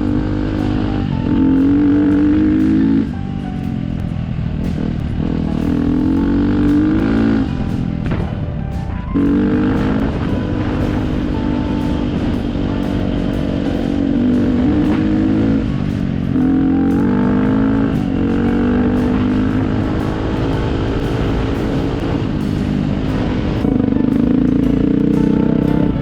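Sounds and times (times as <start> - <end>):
dirt bike engine running: 0.0 - 26.0
knocks and clatter: 1.6 - 26.0.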